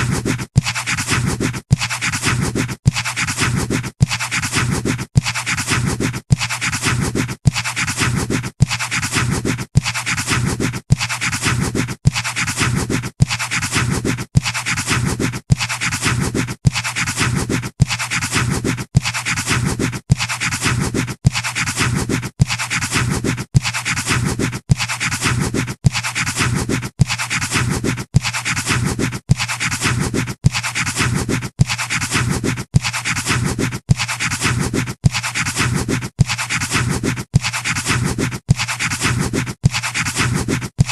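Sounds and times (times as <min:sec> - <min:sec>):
pencil scratching on paper: 0:00.0 - 0:40.9.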